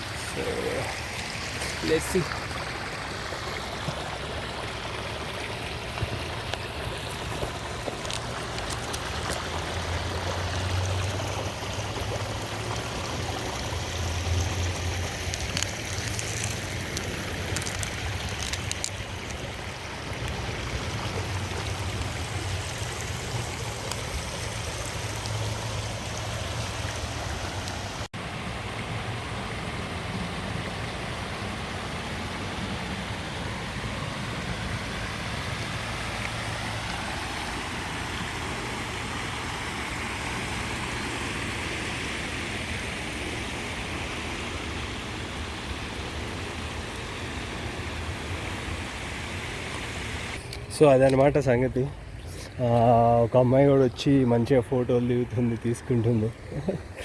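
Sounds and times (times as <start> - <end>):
creek water rushing over rocks: 0.0 - 57.0.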